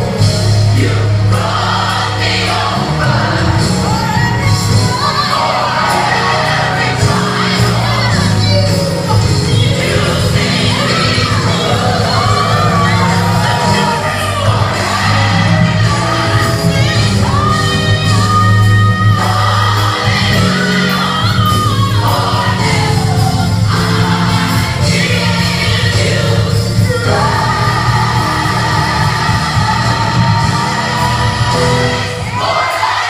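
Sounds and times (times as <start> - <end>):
steady bass line: 0.0 - 32.5
gospel music with singing: 0.0 - 33.0.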